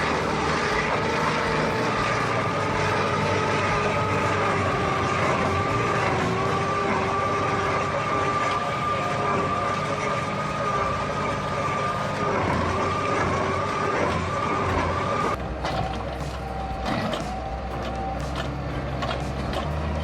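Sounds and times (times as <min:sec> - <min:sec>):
heavy machine engine drone: 0:00.0 - 0:20.0.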